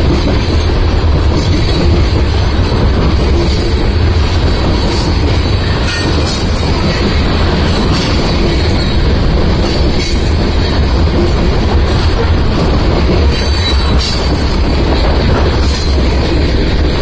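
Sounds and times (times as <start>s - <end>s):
freight train wheels rumbling: 0.0s - 17.0s
train knocks: 0.0s - 17.0s.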